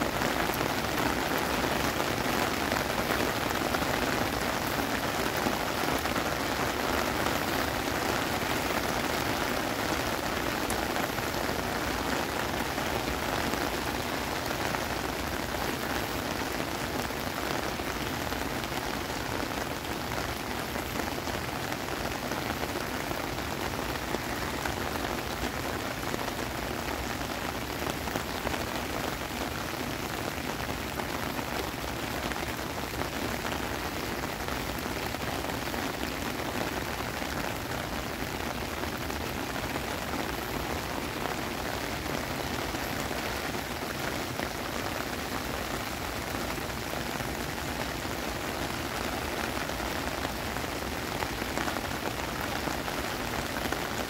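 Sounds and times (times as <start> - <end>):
heavy rain on paving: 0.0 - 54.0.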